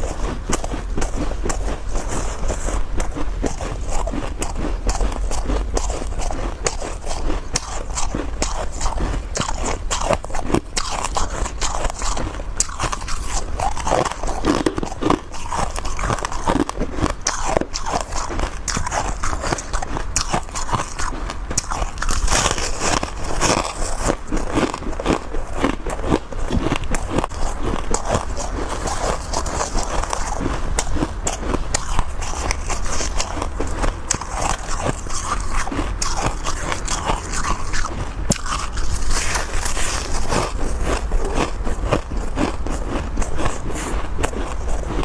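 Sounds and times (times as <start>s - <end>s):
person chewing crunchy frost: 0.0s - 45.0s.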